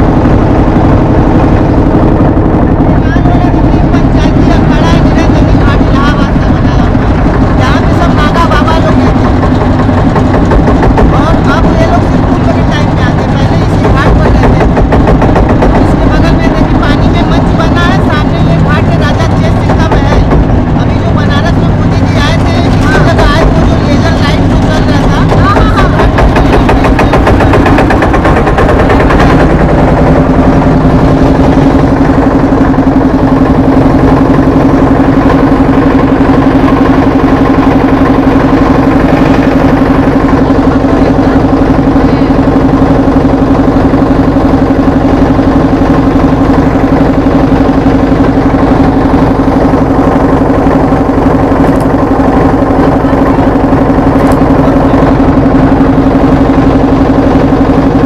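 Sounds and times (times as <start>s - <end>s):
motorboat engine running: 0.0s - 58.0s.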